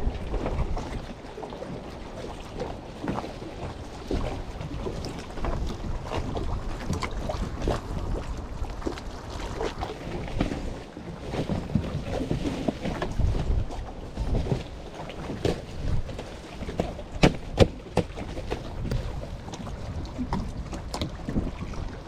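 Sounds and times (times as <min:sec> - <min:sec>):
water slapping boat hull: 0:00.0 - 0:22.0
wind buffeting microphone: 0:00.0 - 0:22.0.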